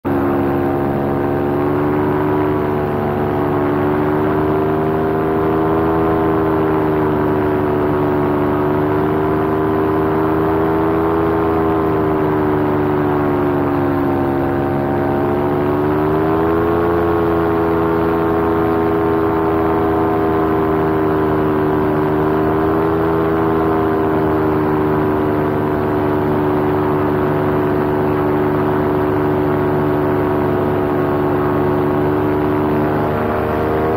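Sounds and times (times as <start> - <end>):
paramotor engine and propeller: 0.0 - 33.9.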